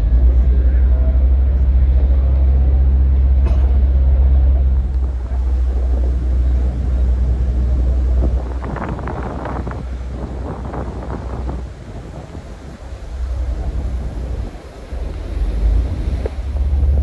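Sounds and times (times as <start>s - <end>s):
ferry diesel engines droning: 0.0s - 17.0s
water noise: 0.0s - 17.0s
wind on microphone: 0.0s - 17.0s.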